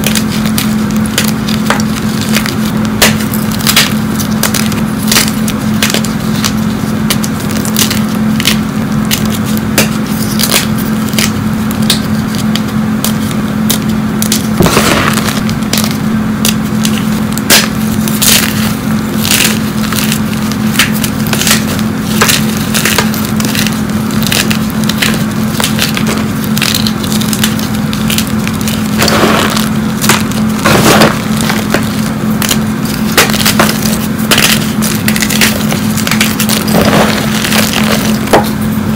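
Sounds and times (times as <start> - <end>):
hands crushing chalk blocks: 0.0 - 38.6.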